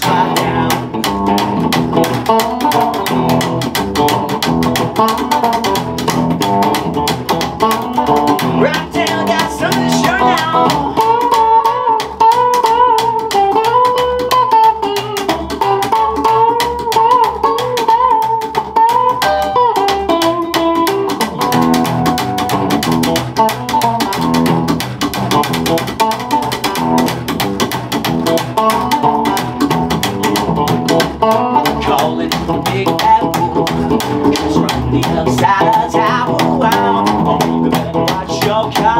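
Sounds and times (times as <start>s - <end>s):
electric guitar lead line: 0.0s - 38.9s
upright double bass: 0.0s - 38.9s.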